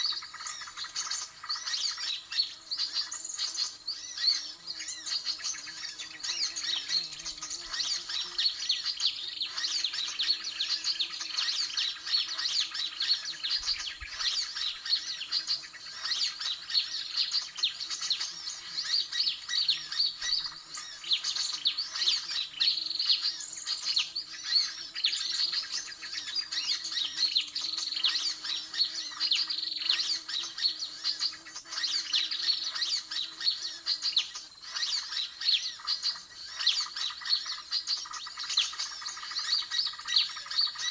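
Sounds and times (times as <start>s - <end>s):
small birds chirping and squawking: 0.0s - 40.9s.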